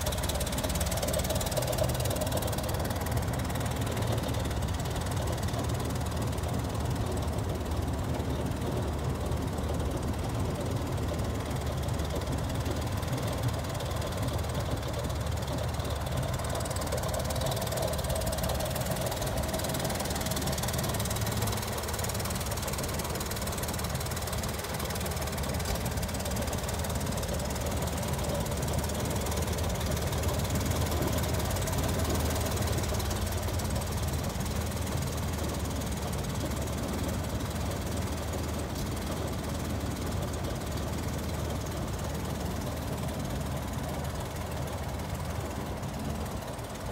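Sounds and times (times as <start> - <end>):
van engine running steadily: 0.0 - 46.9.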